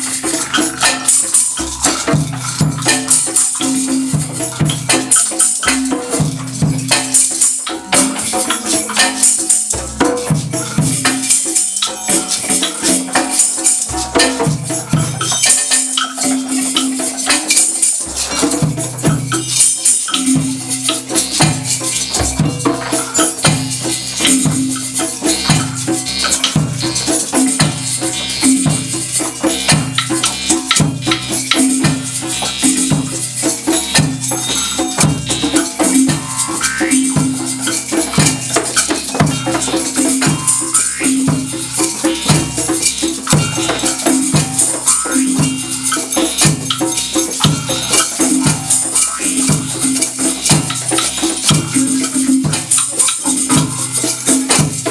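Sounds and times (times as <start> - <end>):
shakers and rattles rustling: 0.0 - 54.9.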